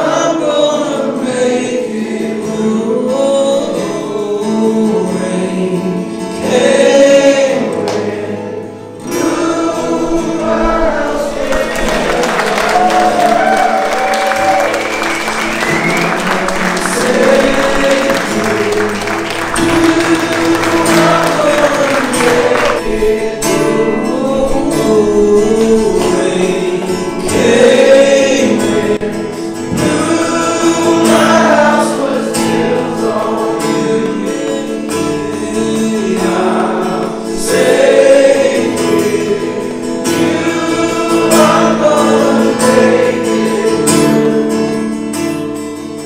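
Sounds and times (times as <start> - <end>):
group singing worship music: 0.0 - 46.0
held chords: 2.4 - 46.0.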